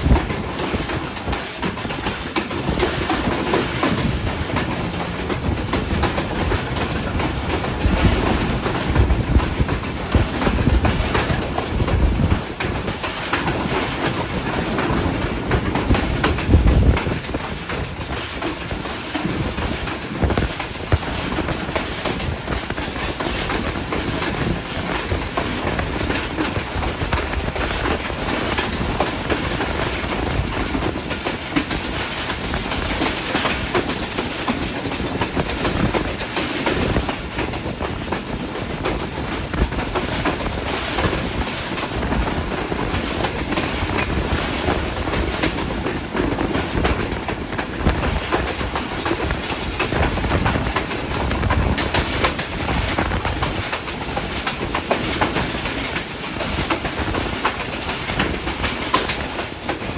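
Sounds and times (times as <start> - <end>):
train carriages rumbling: 0.0 - 59.9
train wheels clicking on rails: 0.0 - 59.9.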